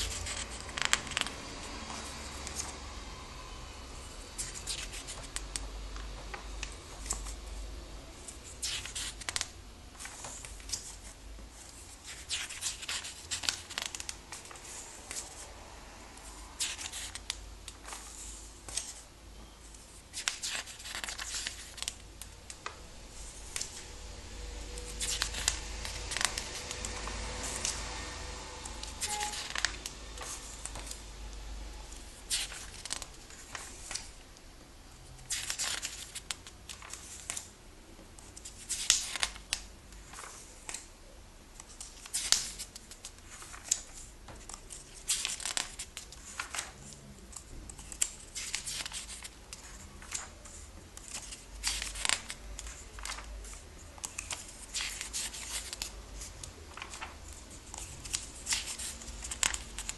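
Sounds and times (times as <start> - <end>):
comic book pages turning: 0.0 - 2.9, 4.4 - 7.4, 8.2 - 15.5, 16.2 - 19.0, 19.7 - 23.9, 24.9 - 28.0, 28.6 - 31.0, 32.0 - 34.1, 35.1 - 37.5, 38.3 - 40.9, 41.6 - 59.9.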